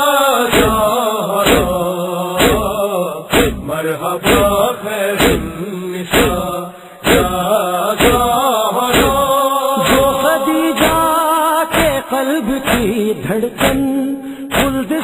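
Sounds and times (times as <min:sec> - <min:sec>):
voices chanting a lament: 0:00.0 - 0:15.0
steady thumping beat: 0:00.5 - 0:01.8, 0:02.4 - 0:12.0, 0:12.6 - 0:13.0, 0:13.6 - 0:14.9.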